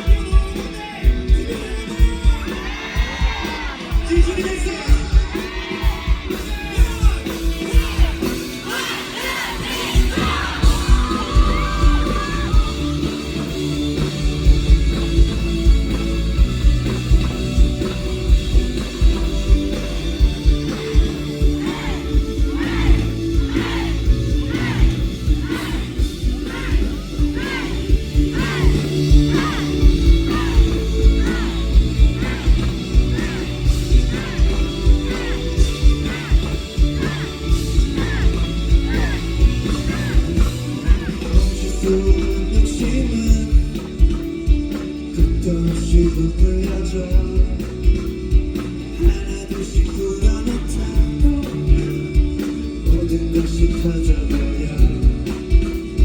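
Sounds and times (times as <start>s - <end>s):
crowd yelling and cheering: 0.0s - 56.0s
live rock band playing: 0.0s - 56.0s.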